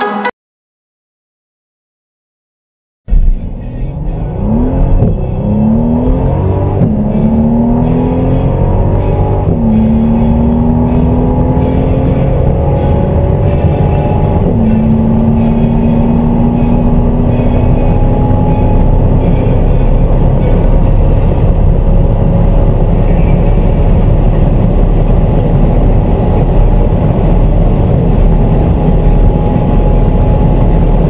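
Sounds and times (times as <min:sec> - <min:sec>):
car engine accelerating: 0:03.1 - 0:31.0.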